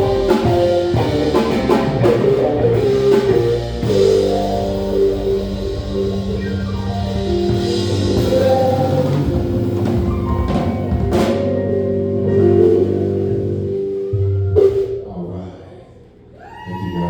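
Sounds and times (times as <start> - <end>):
live band music: 0.0 - 15.1.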